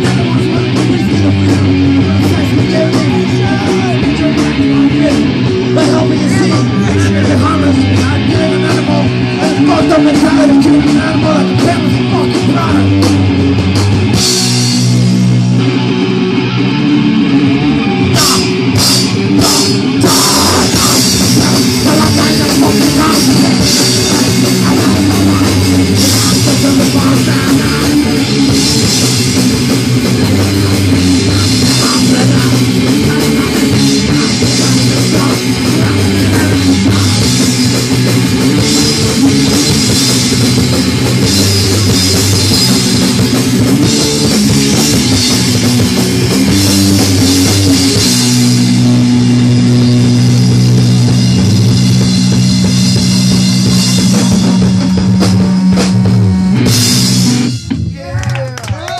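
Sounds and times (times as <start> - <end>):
drum and cymbal hits: 0.0 - 16.0, 18.2 - 58.0
punk band playing live: 0.0 - 58.9.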